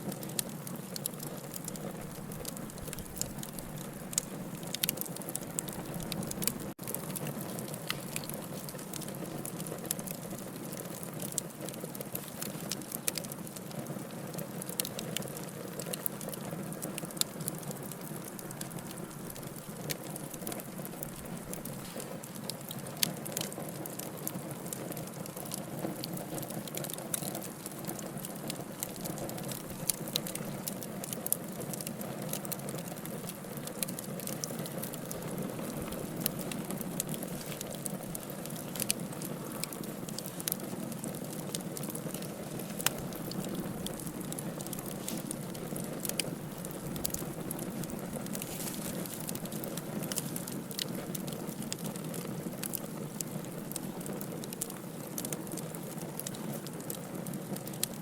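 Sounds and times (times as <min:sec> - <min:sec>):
fire crackling and popping: 0:00.0 - 0:58.0
rush of fire flames: 0:00.2 - 0:57.9.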